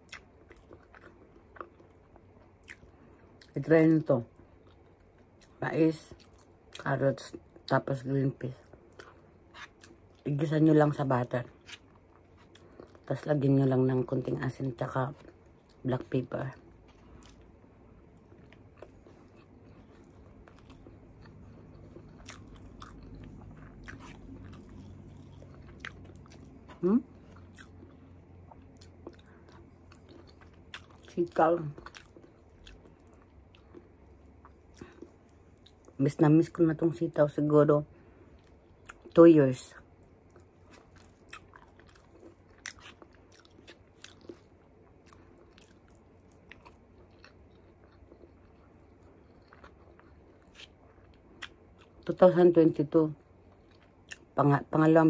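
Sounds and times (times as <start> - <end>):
chewing and mouth sounds: 0.0 - 36.9, 37.9 - 54.5
low room hum: 0.0 - 55.0.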